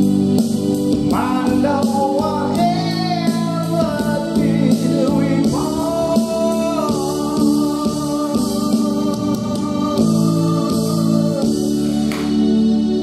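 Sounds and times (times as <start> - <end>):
man singing into a microphone: 1.1 - 11.8.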